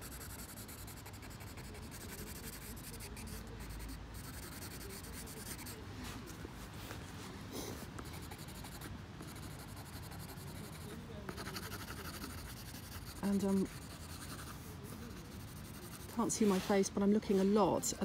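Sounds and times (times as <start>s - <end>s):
pencil scratching on paper: 0.0s - 5.8s, 7.9s - 16.9s.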